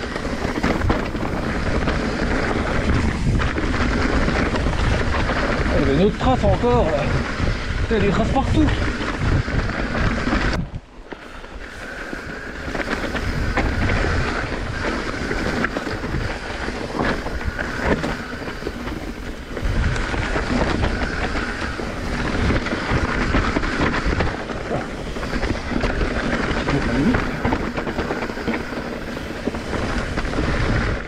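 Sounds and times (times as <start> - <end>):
bike rattling over bumps: 0.0 - 31.0
bike tyres crunching over leaves: 0.0 - 31.0.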